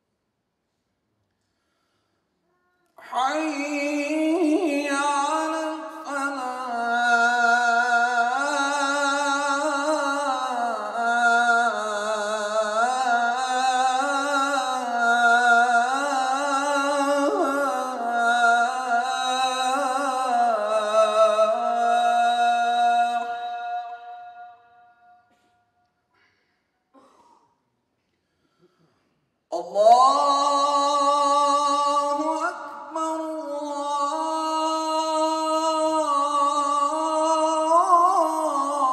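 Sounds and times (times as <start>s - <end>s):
man chanting: 2.9s - 25.2s, 29.5s - 38.9s.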